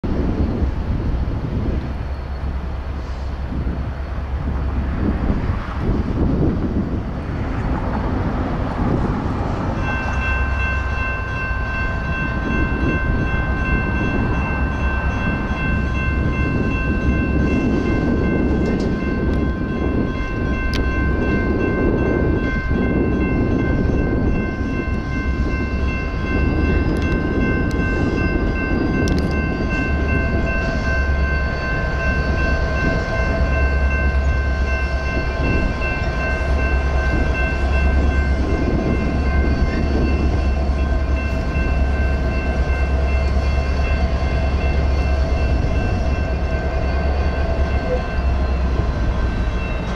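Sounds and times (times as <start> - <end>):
diesel locomotive rumble: 0.0 - 49.9
railroad crossing bells ringing: 0.1 - 49.9.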